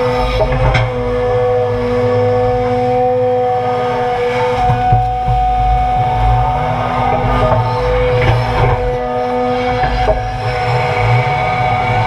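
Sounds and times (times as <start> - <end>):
excavator diesel rumble: 0.0 - 12.0
high hydraulic whine: 0.0 - 12.0.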